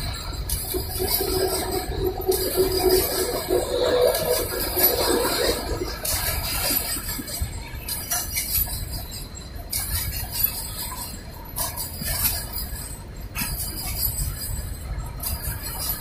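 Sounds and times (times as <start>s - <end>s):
high metallic ringing: 0.0s - 16.0s
steel wheels rumbling over rails: 0.0s - 16.0s.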